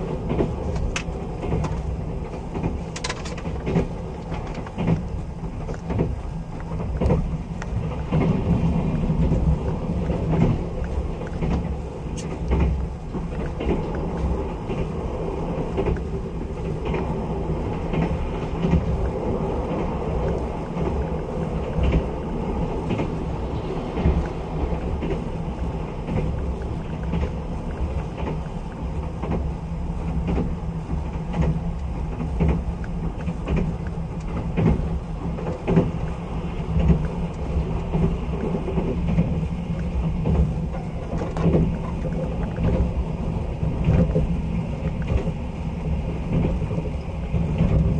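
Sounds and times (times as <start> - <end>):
track clicks and knocks: 0.0 - 47.9
train wheels rumbling on rails: 0.0 - 47.9.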